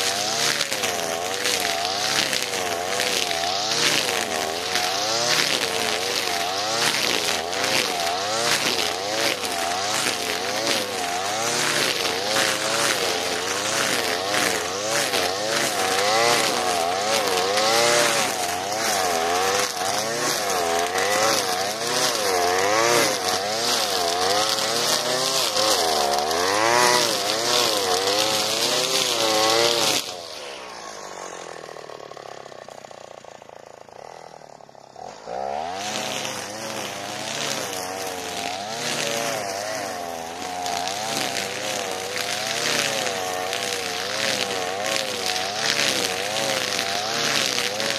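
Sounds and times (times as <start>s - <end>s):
trimmer line ticking through grass: 0.0s - 33.4s, 35.0s - 47.9s
brushcutter engine revving: 0.0s - 47.9s.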